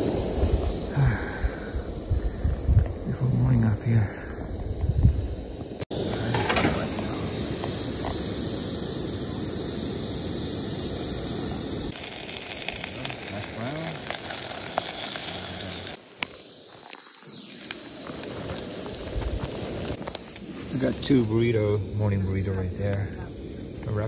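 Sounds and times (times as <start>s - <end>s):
camp stove burner hissing: 0.0s - 24.0s.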